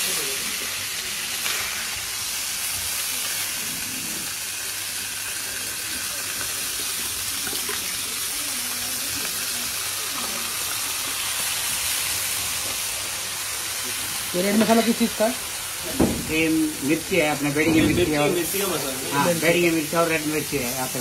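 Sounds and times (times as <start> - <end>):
fish sizzling on a griddle: 0.0 - 21.0.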